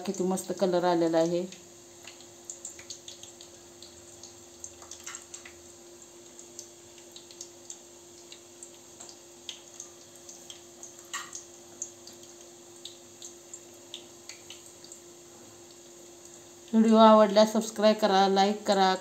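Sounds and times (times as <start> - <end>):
faint steady hum: 0.0 - 19.0
hot oil crackling and popping: 0.0 - 19.0.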